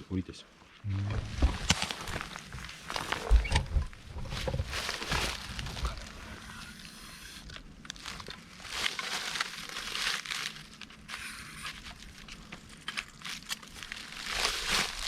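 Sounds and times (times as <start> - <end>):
rustling and crackling: 0.6 - 15.0.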